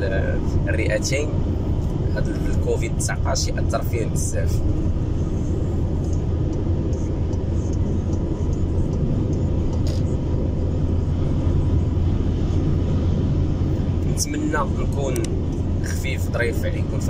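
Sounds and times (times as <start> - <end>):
engine and tyre noise inside cab: 0.0 - 17.0.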